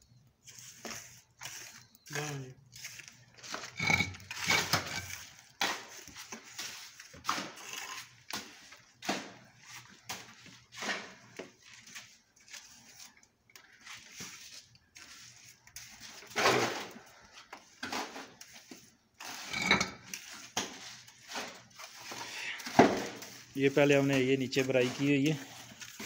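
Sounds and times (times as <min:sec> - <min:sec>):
trowel scraping wet mortar: 0:00.2 - 0:26.0
shovel scraping metal wheelbarrow: 0:00.4 - 0:13.1, 0:14.2 - 0:17.1, 0:17.8 - 0:26.0.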